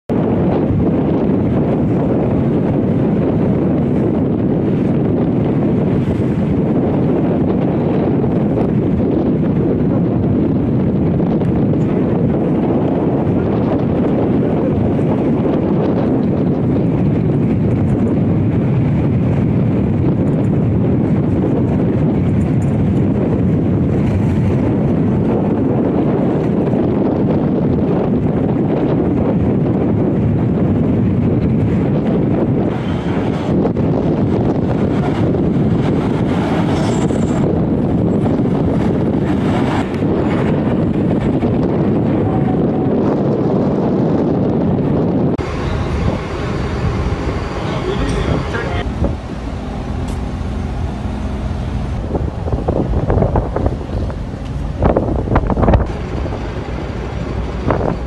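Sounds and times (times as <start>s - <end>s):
wind buffeting microphone: 0.0s - 58.0s
heavy engine rumble: 0.1s - 58.0s.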